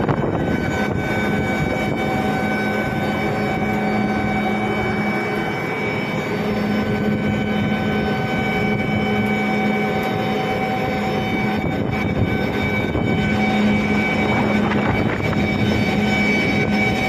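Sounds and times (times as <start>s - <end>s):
screw compressor humming: 0.0s - 17.0s.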